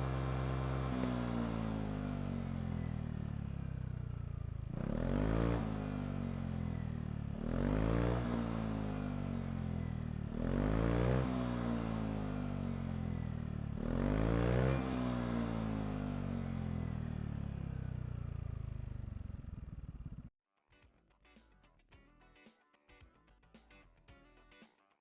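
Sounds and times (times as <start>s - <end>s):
scooter engine revving: 0.0s - 20.3s.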